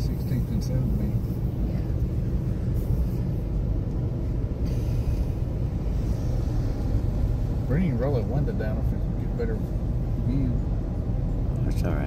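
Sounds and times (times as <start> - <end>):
car engine and tyres rumble: 0.0 - 12.0.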